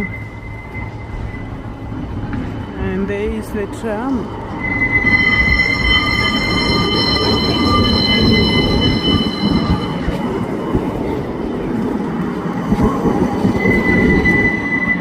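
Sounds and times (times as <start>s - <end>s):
tram wheels squealing: 0.0s - 2.1s, 3.5s - 15.0s
tram low rumble: 0.0s - 15.0s.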